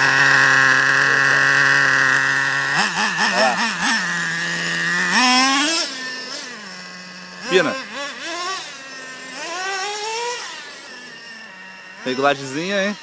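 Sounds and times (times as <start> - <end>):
model engine idling and revving: 0.0 - 13.0.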